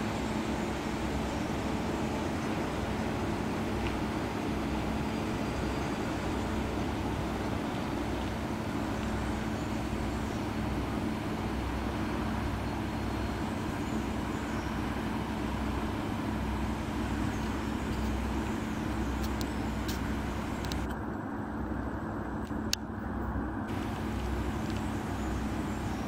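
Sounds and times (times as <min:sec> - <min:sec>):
ship diesel engines droning: 0:00.0 - 0:26.0.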